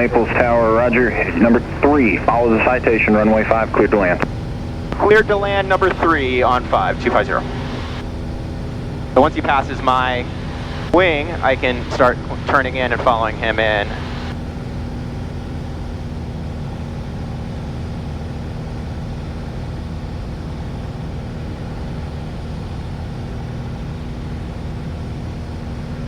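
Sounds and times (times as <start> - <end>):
aircraft engine and propeller drone: 0.0 - 26.0.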